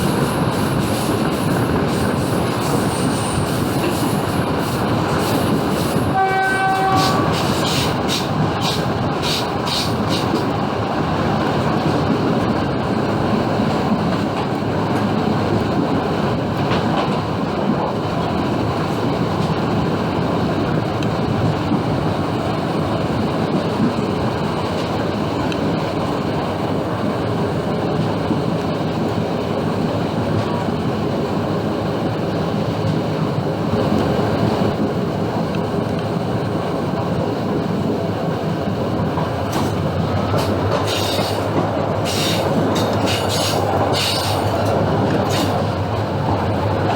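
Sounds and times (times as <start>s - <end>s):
diesel locomotive engine: 0.0s - 46.9s
train wheels on rails: 0.0s - 46.9s.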